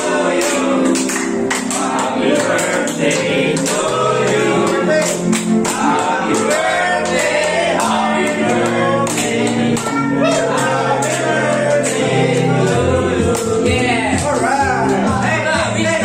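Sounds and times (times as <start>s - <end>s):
group of people singing: 0.0s - 16.0s
sharp hand claps: 0.3s - 13.6s.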